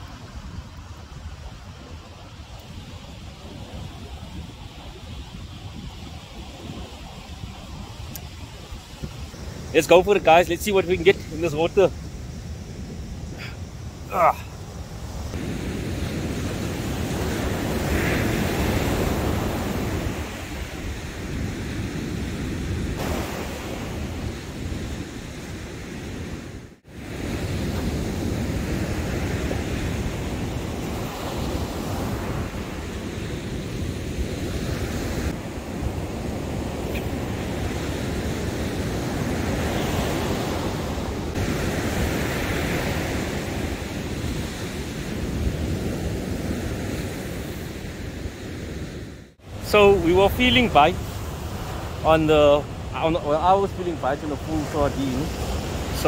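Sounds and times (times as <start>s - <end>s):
ocean surf washing up beach: 0.0s - 56.0s
wind buffeting microphone: 0.0s - 56.0s.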